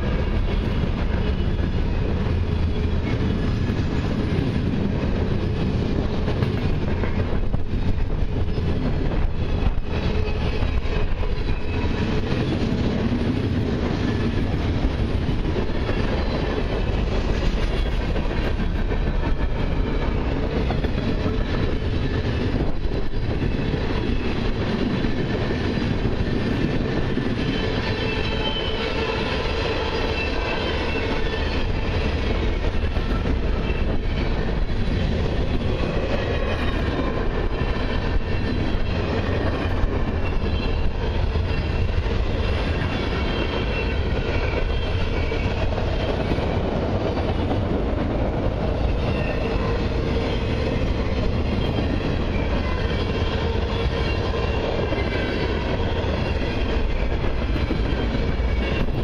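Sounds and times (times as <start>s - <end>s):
freight train wheels rolling on rails: 0.0s - 59.0s.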